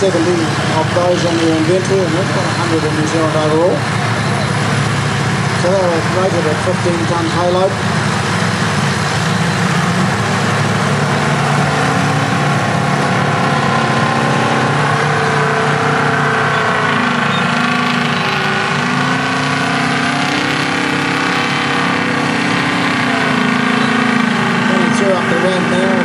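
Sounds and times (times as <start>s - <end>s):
dump truck driving: 0.0s - 26.0s
motor scraper diesel engine: 0.0s - 26.0s.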